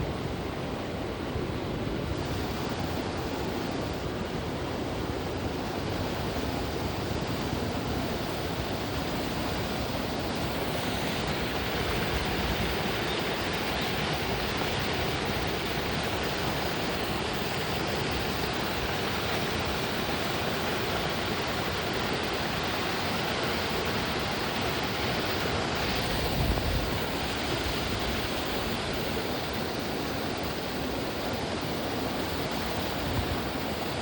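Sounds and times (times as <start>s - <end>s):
steady rushing noise: 0.0s - 34.0s.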